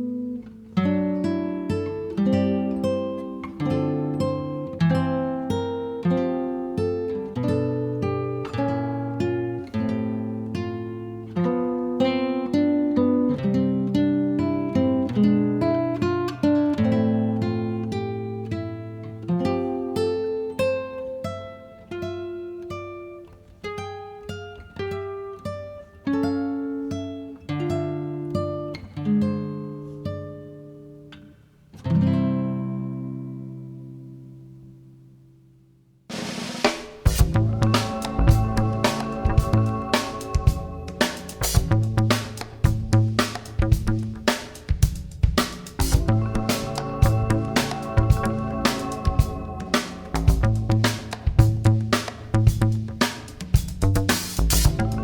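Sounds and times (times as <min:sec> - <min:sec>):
acoustic guitar picking melody: 0:00.0 - 0:55.0.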